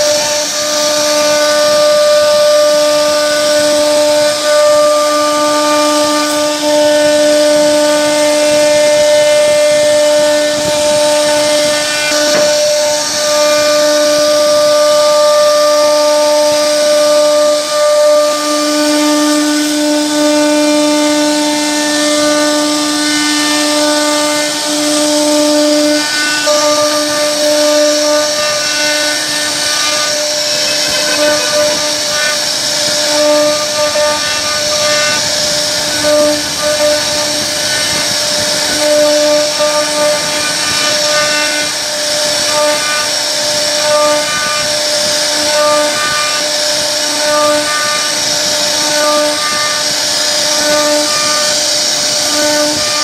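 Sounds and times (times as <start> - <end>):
hiss of bit cutting wood: 0.0 - 53.0
router spindle whining: 0.0 - 53.0.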